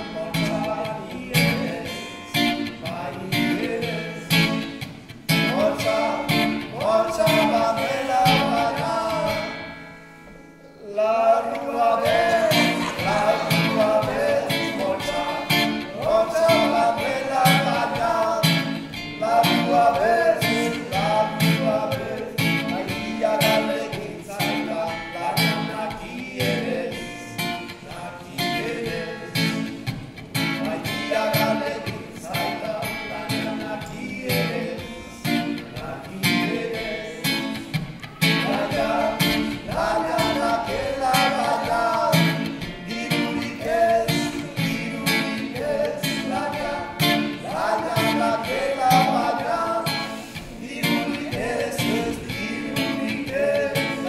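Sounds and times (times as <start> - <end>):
man singing: 0.0 - 9.8, 10.6 - 54.0
acoustic guitar strumming: 0.0 - 54.0.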